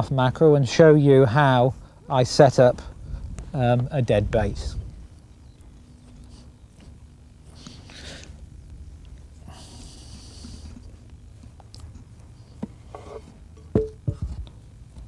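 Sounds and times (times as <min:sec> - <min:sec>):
steady low rumble: 0:01.4 - 0:14.9.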